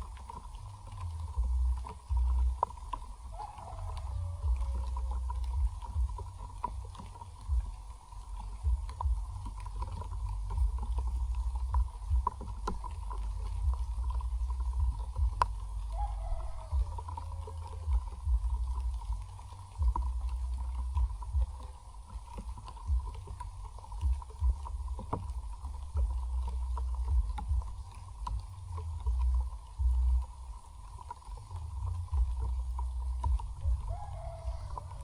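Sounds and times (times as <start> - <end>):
light ticks: 0.0 - 35.0
wind buffeting microphone: 0.0 - 35.0.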